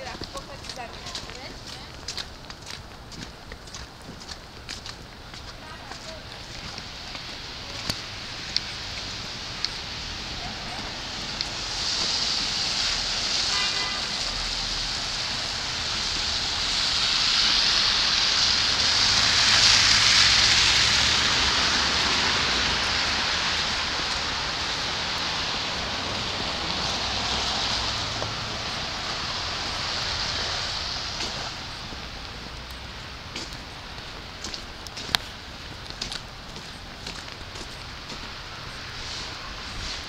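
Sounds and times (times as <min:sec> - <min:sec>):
tyre hiss on wet street: 0:00.0 - 0:40.0.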